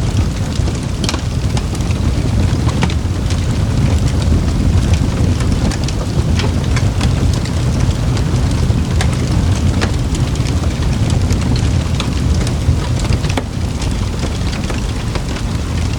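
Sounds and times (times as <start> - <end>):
fire flames roaring: 0.0 - 15.9
wood crackling and popping: 0.0 - 15.9.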